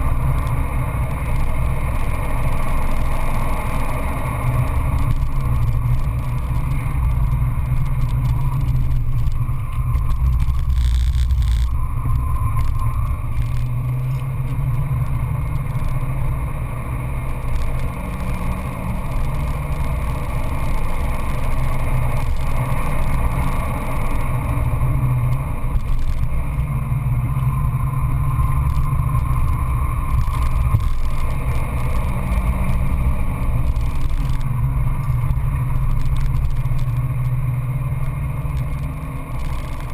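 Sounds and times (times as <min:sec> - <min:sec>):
car engine running hard: 0:00.0 - 0:39.9
wind noise: 0:00.0 - 0:39.9.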